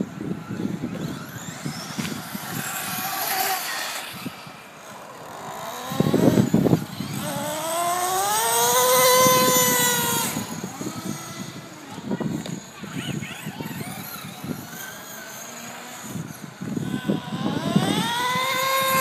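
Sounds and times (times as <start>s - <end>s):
toy car motor whine: 0.2s - 19.0s.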